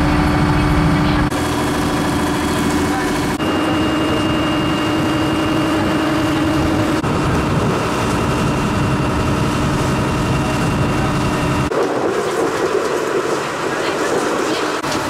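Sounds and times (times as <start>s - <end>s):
boat engine droning: 0.0s - 15.0s
steady hum: 0.0s - 15.0s.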